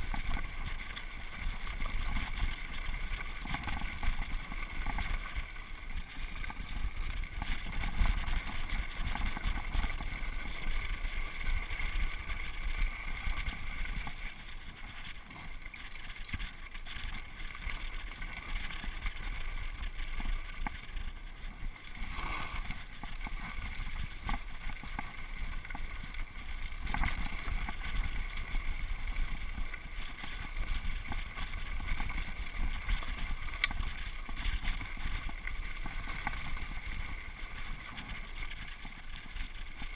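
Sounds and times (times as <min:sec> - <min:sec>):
bike rattling and knocking: 0:00.0 - 0:39.9
tyres rumbling on dirt trail: 0:00.0 - 0:39.9.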